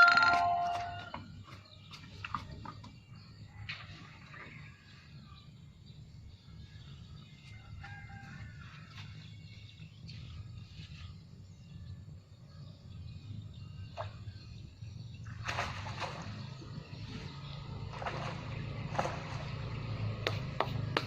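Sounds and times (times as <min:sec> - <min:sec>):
steady low hum: 0:00.4 - 0:21.0.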